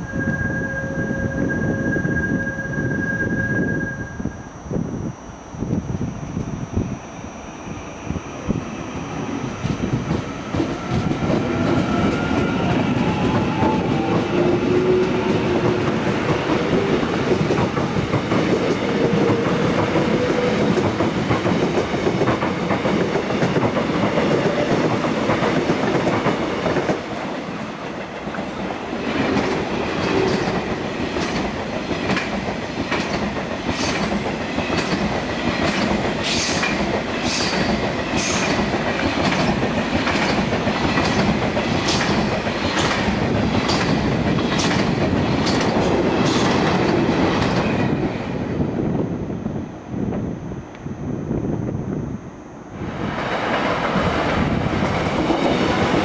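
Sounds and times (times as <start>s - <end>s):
train rumbling past: 0.0s - 50.5s, 52.7s - 56.0s.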